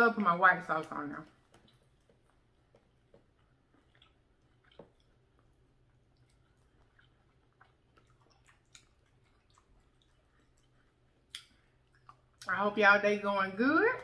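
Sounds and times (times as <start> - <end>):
low steady hum: 0.0 - 14.0
chewing: 0.7 - 12.6.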